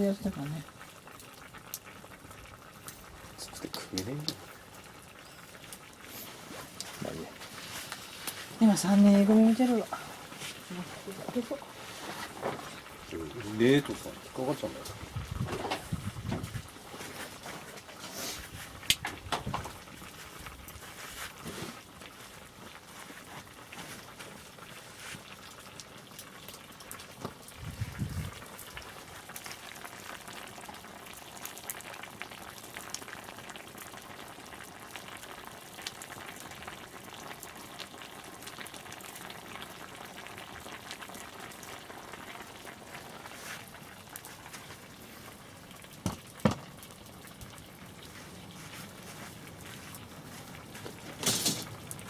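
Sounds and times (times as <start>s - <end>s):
bonfire crackling and popping: 0.0s - 52.0s.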